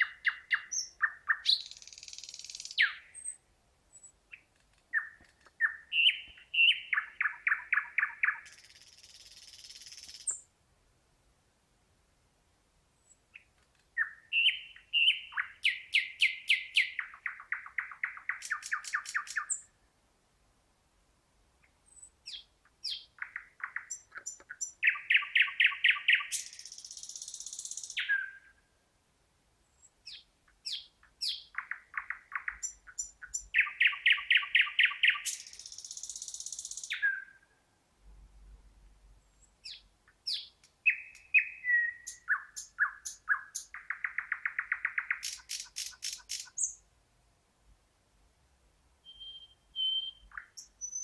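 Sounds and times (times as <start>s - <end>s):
nightingale singing: 0.0s - 10.5s, 13.0s - 19.8s, 21.6s - 28.7s, 29.6s - 37.6s, 39.2s - 46.9s, 49.0s - 51.0s.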